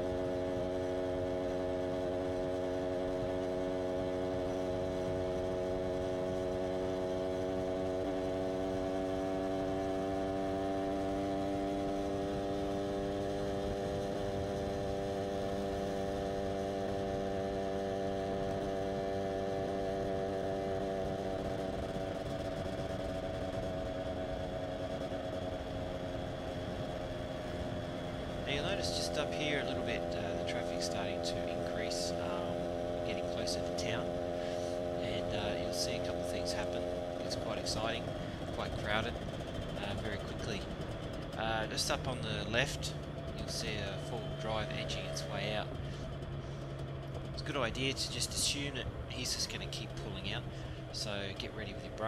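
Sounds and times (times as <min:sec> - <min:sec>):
motorcycle engine droning: 0:00.0 - 0:52.0.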